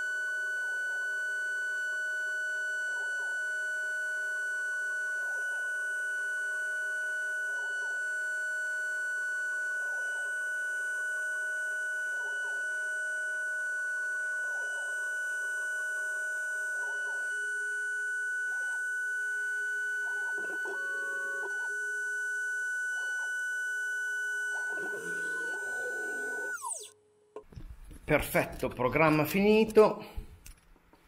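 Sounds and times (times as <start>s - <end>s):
faint steady machine tones: 0.0s - 27.0s
milling machine spindle whine: 0.0s - 27.0s.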